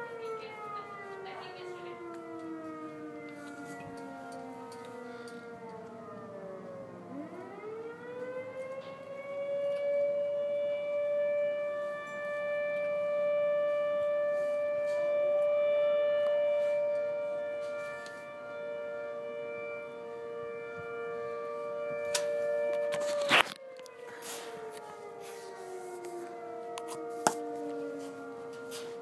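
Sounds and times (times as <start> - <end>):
other siren tones: 0.0 - 29.0
warning siren wailing: 0.0 - 29.0.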